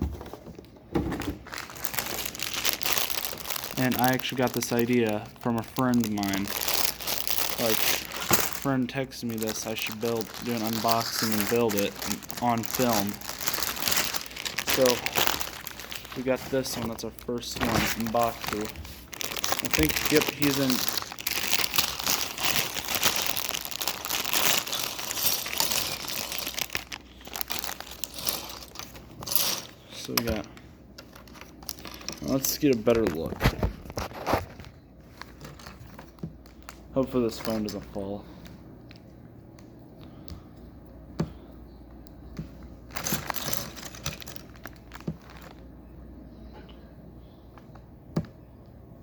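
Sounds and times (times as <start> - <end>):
plastic bag crinkling: 1.1 - 39.0, 42.8 - 45.7.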